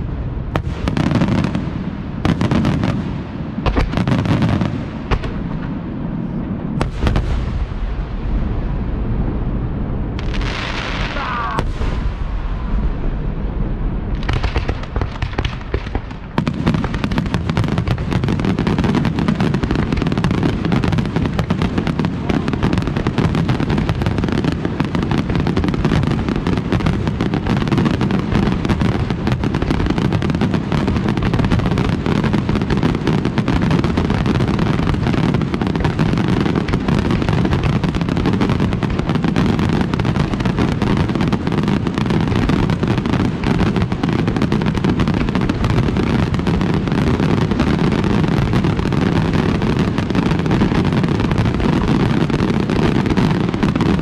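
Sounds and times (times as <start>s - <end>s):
fireworks barrage rumbling: 0.0s - 54.0s
fireworks crackling: 0.0s - 54.0s.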